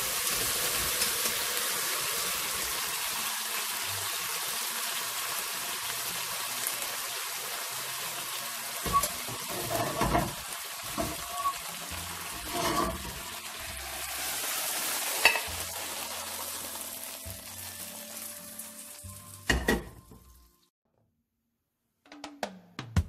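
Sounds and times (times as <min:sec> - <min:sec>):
chicken wings sizzling in a wok: 0:00.0 - 0:20.7.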